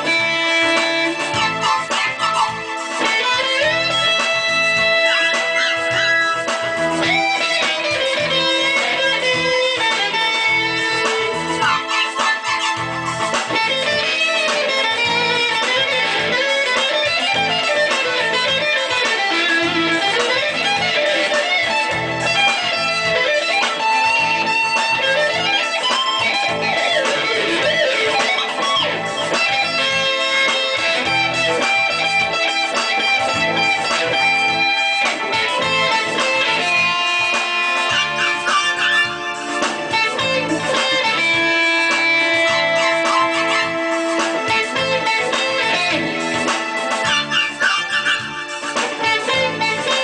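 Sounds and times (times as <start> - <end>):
electric guitar lead lines: 0.0 - 50.0
low guitar notes: 0.0 - 50.0.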